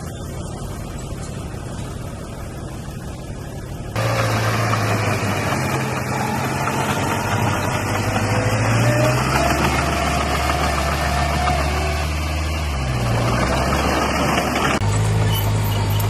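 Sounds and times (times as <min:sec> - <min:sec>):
heavy machine diesel engine: 0:00.0 - 0:16.0.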